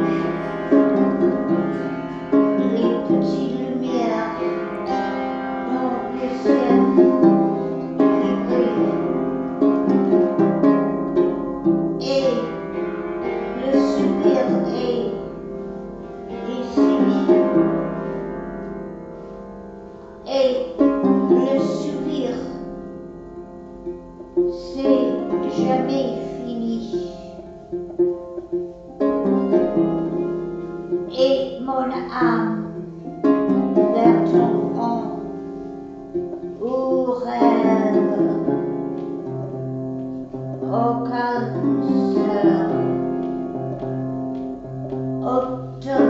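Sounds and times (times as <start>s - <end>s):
slow music with plucked strings: 0.0s - 46.0s.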